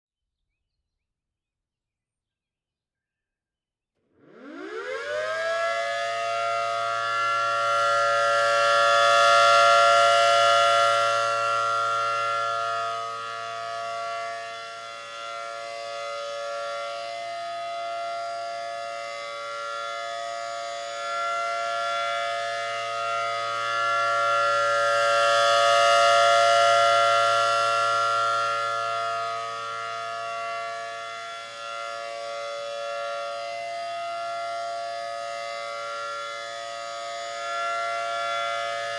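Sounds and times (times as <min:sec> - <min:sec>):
rotating warning siren: 0:04.0 - 0:38.9.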